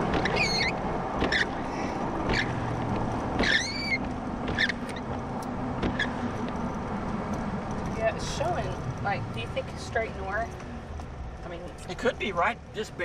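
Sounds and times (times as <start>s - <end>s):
road and wind noise in a car: 0.0s - 13.0s.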